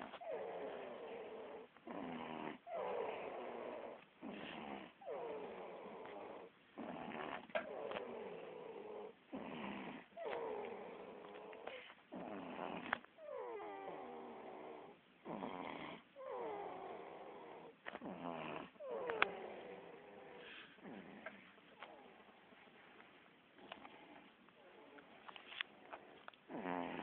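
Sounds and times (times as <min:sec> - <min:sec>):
snoring with whistling breaths: 0:00.2 - 0:21.4, 0:26.5 - 0:27.0.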